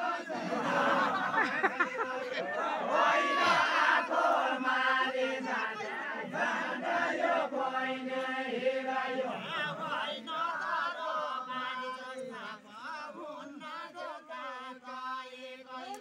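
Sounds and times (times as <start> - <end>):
men singing unaccompanied chant: 0.0 - 16.0.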